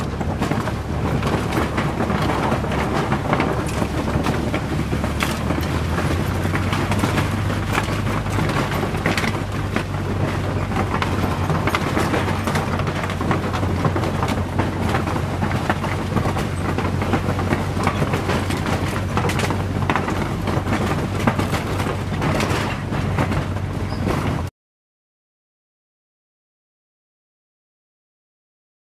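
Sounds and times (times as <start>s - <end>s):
loose boards knocking: 0.0s - 24.4s
tyres on wooden planks: 0.0s - 24.5s
vehicle engine running: 0.0s - 24.5s.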